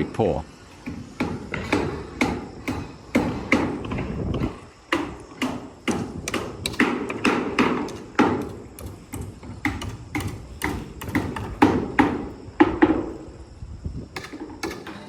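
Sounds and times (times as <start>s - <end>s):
hammer blows on scaffolding: 0.8s - 13.2s.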